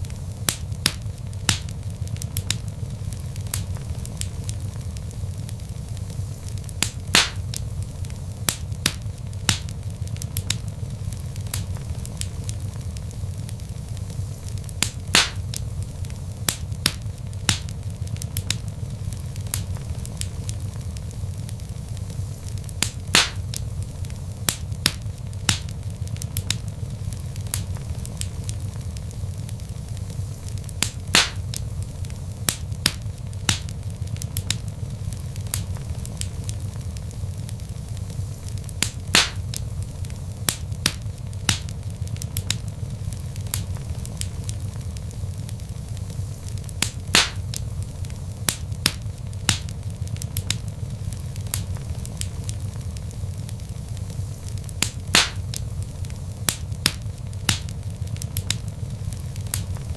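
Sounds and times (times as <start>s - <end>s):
fire popping and snapping: 0.0s - 59.9s
low rumble of fire: 0.0s - 59.9s
wood fire crackling: 0.0s - 59.9s.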